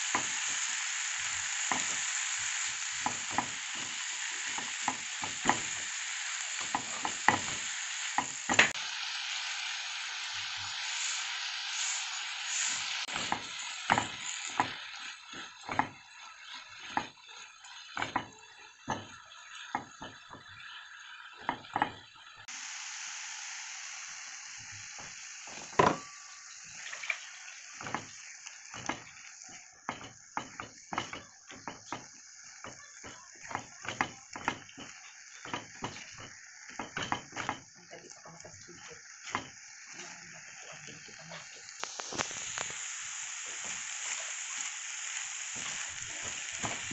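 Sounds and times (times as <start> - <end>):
food sizzling in frying pan: 0.0 - 46.9.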